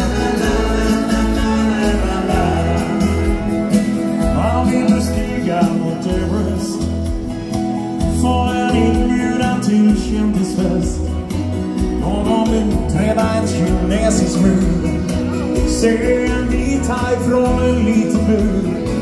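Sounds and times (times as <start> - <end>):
live country band playing: 0.0 - 19.0.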